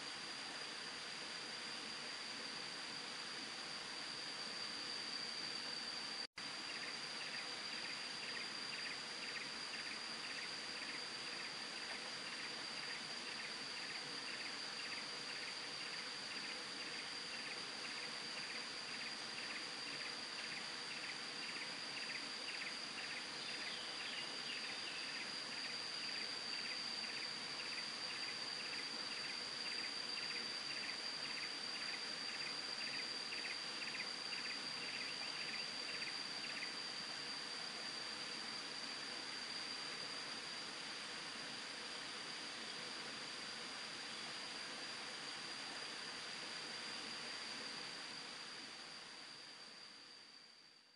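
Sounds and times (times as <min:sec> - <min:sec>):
insect chirping: 0:00.0 - 0:50.9
insects droning: 0:00.0 - 0:50.9
steady hiss: 0:00.0 - 0:50.9.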